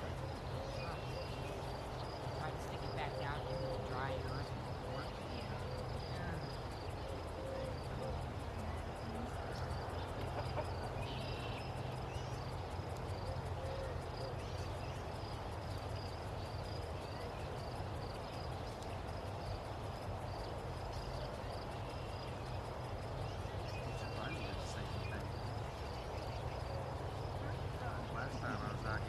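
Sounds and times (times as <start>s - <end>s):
bird calls: 0.0s - 19.1s, 20.4s - 29.0s
insect chirping: 0.0s - 29.0s
low steady hum: 0.0s - 29.0s.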